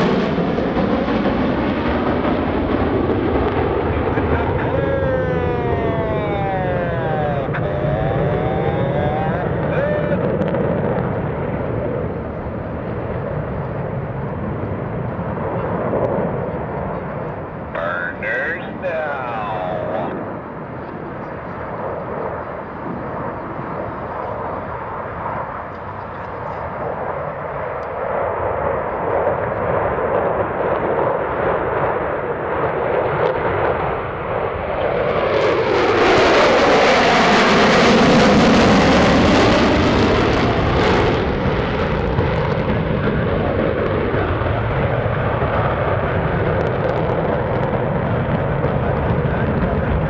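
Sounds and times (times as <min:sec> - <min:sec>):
jet planes flying over: 0:00.0 - 0:50.0.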